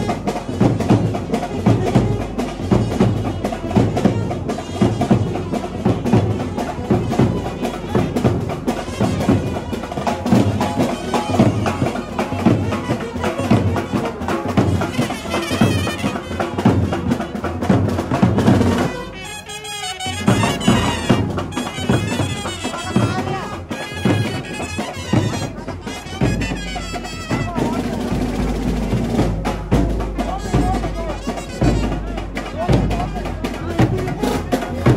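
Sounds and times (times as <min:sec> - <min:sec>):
fast dense drumming: 0:00.0 - 0:19.2, 0:20.1 - 0:34.9
wind instrument melody: 0:00.0 - 0:34.9.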